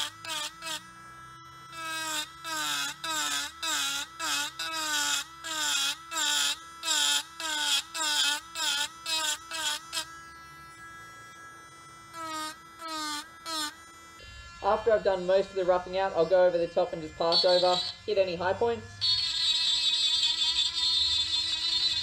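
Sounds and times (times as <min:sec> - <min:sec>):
cutter hissing on wood: 0:00.0 - 0:22.0
rotary tool motor whine: 0:00.0 - 0:22.0.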